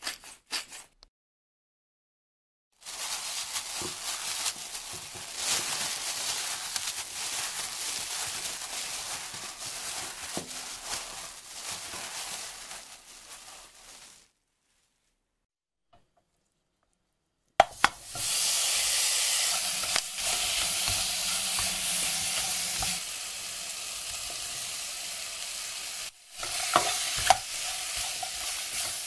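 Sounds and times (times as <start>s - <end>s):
plastic glove crinkling: 2.8s - 15.5s, 17.9s - 29.0s.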